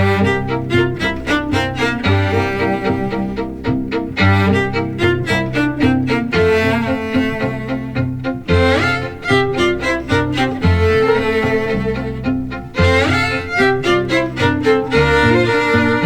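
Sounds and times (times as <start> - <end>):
string music: 0.0 - 16.0.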